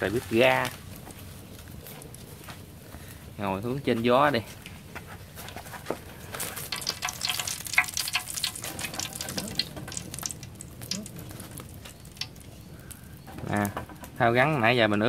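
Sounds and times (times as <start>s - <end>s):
oil crackling in a frying pan: 0.0s - 14.4s.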